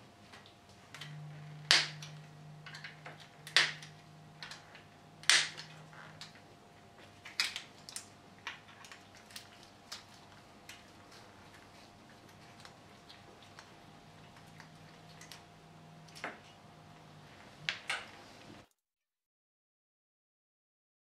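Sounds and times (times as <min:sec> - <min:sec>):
faint low hum: 0:00.0 - 0:18.7.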